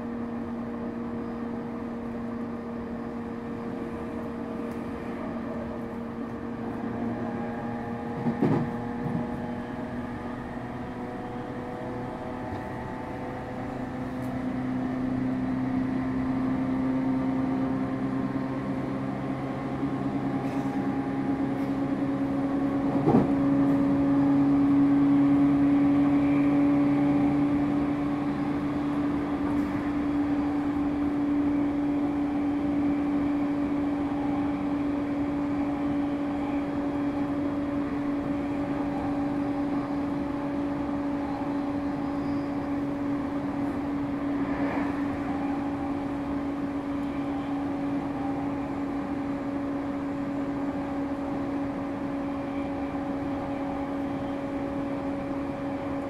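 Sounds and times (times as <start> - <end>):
electric train traction motor whine: 0.0 - 56.0.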